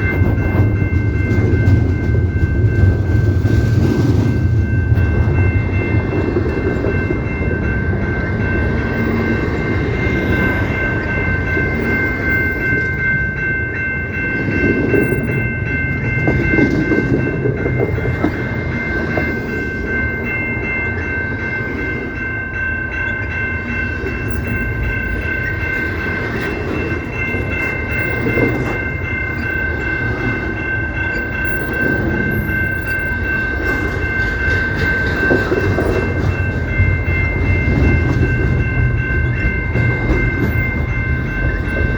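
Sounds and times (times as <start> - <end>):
train cars rumbling and clattering: 0.0 - 41.9.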